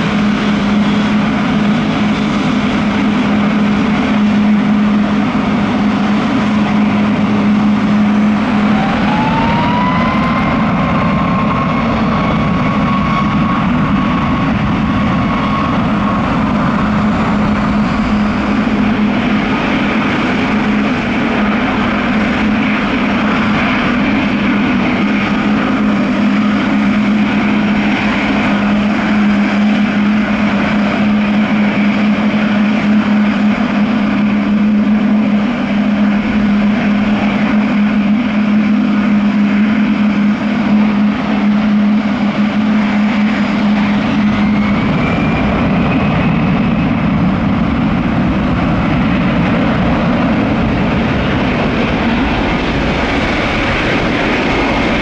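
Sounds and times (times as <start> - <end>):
jet airliner engines running: 0.0 - 55.0.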